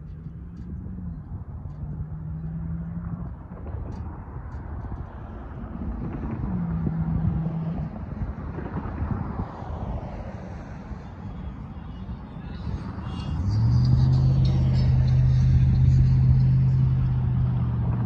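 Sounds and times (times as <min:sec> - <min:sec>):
vehicles passing over railroad crossing: 0:00.0 - 0:18.0
wind on microphone: 0:00.0 - 0:18.0.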